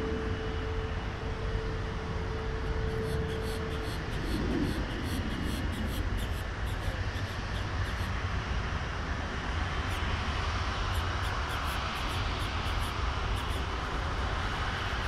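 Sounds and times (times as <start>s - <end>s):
faint steady whine: 0.0s - 15.0s
jet engines rumbling: 0.0s - 15.0s.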